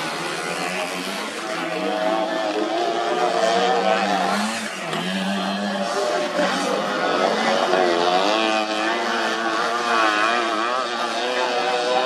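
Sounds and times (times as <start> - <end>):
scooter engines revving: 0.0 - 12.0.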